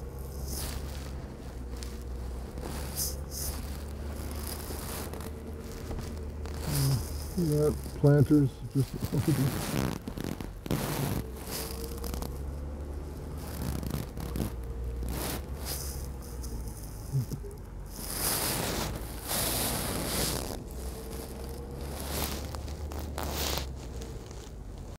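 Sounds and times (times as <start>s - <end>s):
engine and road rumble: 0.0s - 24.9s
rustling and scraping: 0.0s - 24.9s.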